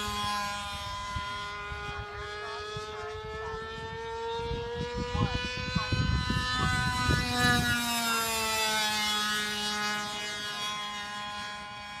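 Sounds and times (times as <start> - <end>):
model airplane motor whining: 0.0 - 12.0
wind rumble on microphone: 0.0 - 12.0.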